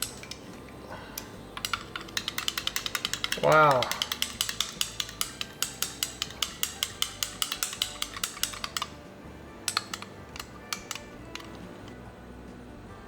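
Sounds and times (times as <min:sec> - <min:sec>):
liquid being stirred: 0:00.0 - 0:12.0
utensil clinking in a cup: 0:00.0 - 0:12.1.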